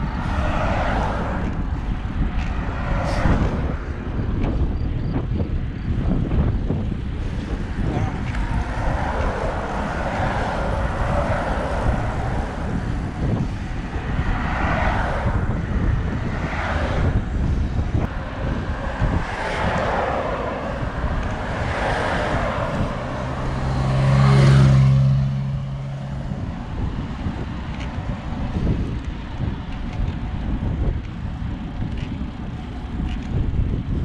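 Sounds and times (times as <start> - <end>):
motor vehicle engine humming: 0.0 - 34.0
road and tyre noise: 0.0 - 34.0
vehicles passing whooshes: 0.0 - 34.0
wind rushing over microphone: 0.0 - 34.0.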